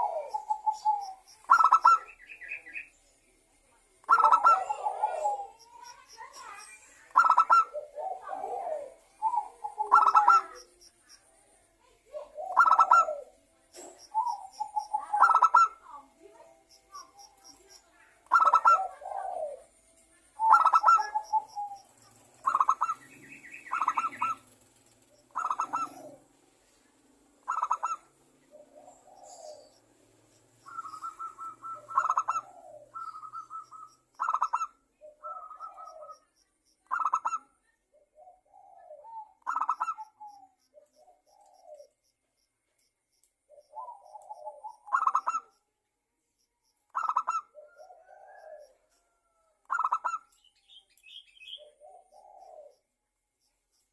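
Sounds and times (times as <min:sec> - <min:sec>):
dove cooing: 0:00.0 - 0:02.7, 0:04.0 - 0:10.8, 0:12.1 - 0:19.8, 0:20.4 - 0:26.4, 0:27.4 - 0:29.9, 0:30.6 - 0:36.3, 0:36.9 - 0:42.0, 0:43.5 - 0:45.5, 0:46.9 - 0:50.3, 0:51.3 - 0:52.9.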